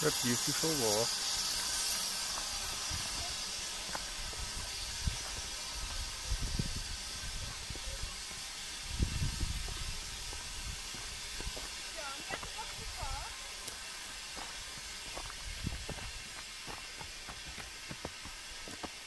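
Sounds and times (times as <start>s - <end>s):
steady hiss: 0.0s - 19.0s
footsteps on dirt path: 1.6s - 8.4s, 9.0s - 19.0s.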